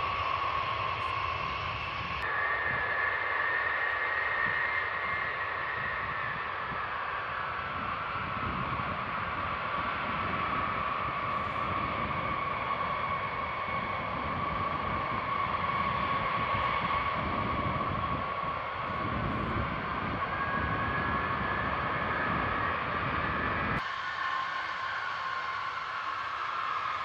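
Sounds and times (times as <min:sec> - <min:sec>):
higher jet engine whine: 0:00.0 - 0:27.0
jet engines whining and roaring: 0:00.0 - 0:27.0.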